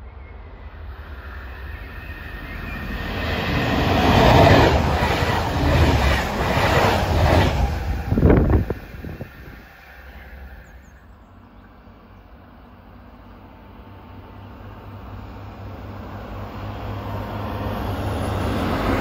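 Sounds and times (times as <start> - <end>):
diesel railcar engine drone: 0.0 - 19.0
train wheel noise: 0.6 - 10.9, 13.3 - 19.0.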